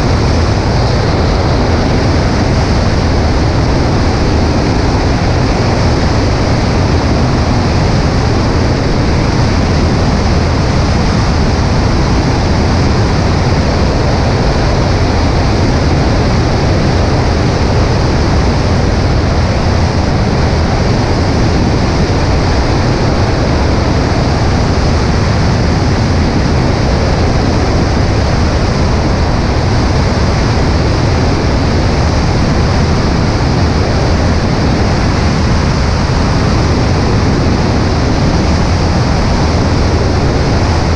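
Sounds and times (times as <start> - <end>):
small plane in flight: 0.0 - 40.9
wind rushing: 0.0 - 40.9.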